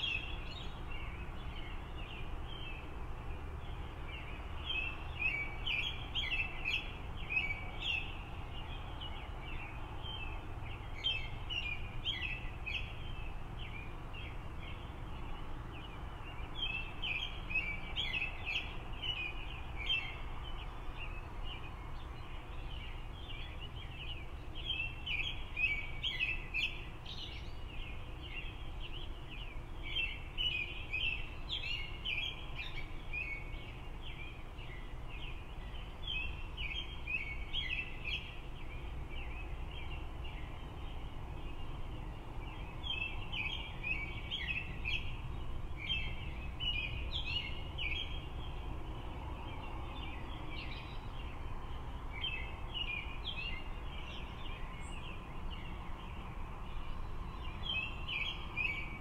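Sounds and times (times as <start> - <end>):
low traffic rumble: 0.0 - 59.0
songbirds singing: 0.0 - 59.0.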